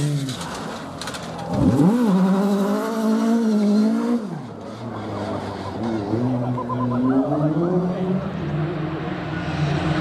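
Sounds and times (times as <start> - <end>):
rally car engine at high revs: 0.0 - 10.0.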